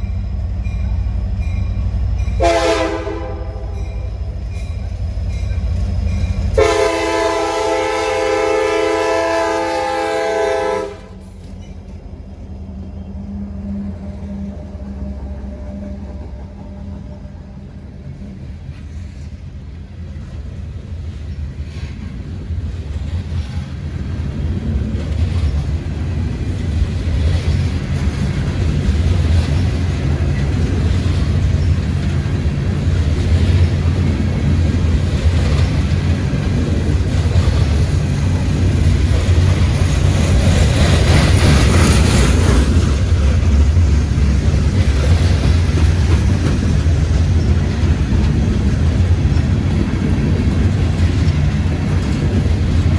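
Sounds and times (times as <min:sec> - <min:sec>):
diesel locomotive engines droning: 0:00.0 - 0:52.9
train wheels clicking on rail: 0:00.0 - 0:52.9.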